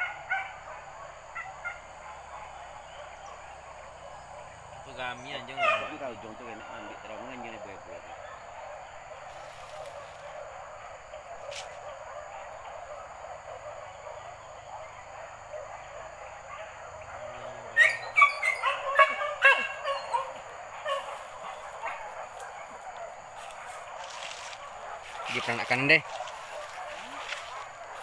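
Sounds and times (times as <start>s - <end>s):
dogs yelping barks: 0.0s - 28.0s.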